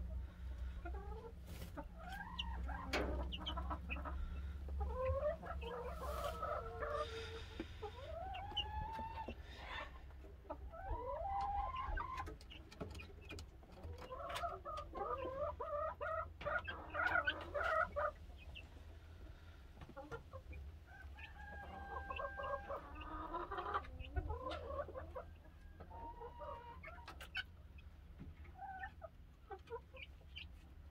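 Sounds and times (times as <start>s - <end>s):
chicks chirping: 0.4s - 9.8s, 10.7s - 18.8s, 20.0s - 25.2s, 25.9s - 30.7s.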